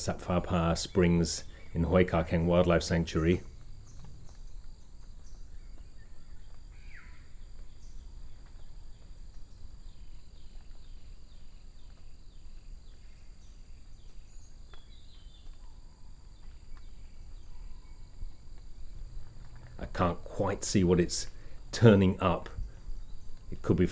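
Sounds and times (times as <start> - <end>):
high insect drone: 0.0 - 23.9.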